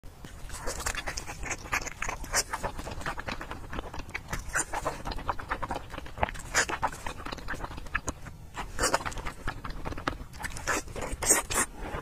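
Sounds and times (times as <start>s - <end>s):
wet chewing and lip-smacking: 0.2s - 12.0s.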